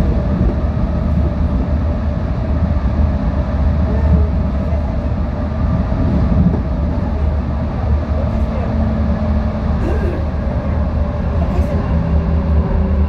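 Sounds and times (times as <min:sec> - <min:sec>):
train rumbling through tunnel: 0:00.0 - 0:13.0.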